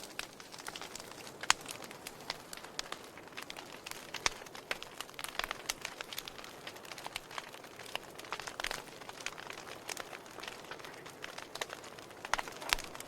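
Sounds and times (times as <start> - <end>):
fire crackles and pops: 0.0 - 13.0
soft hiss of fire: 0.0 - 13.0.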